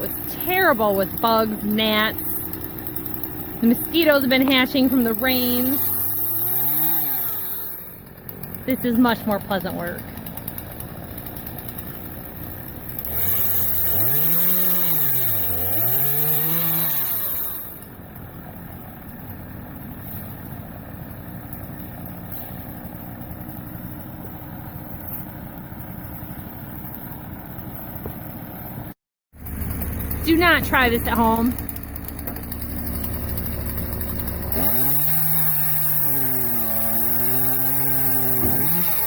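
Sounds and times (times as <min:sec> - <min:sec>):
chainsaw revving and cutting: 0:00.0 - 0:24.0, 0:29.4 - 0:39.0.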